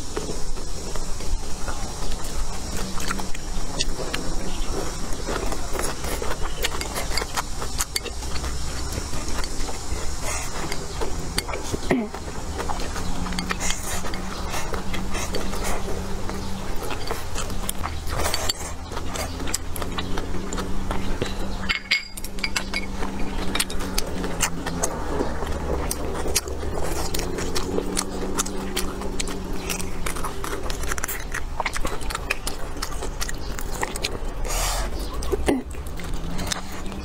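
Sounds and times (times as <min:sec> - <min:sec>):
steady low hum: 0:00.0 - 0:37.0
wet chewing and biting: 0:00.0 - 0:37.0.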